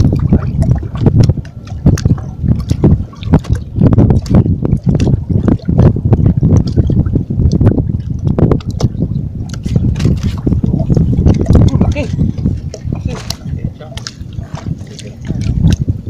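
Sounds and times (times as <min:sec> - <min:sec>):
water sloshing against rocks: 0:00.0 - 0:16.0
wind buffeting microphone: 0:00.0 - 0:16.0.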